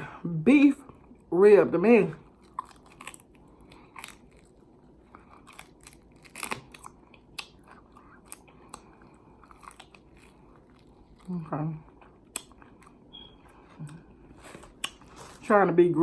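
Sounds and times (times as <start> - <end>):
person chewing: 2.2 - 15.4.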